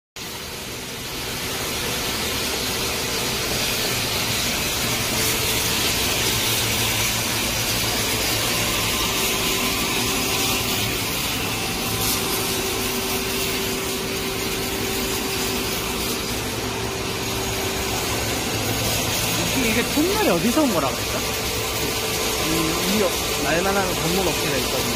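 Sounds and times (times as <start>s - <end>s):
bandsaw cutting steel: 0.2s - 24.9s
low machine hum: 0.2s - 24.9s.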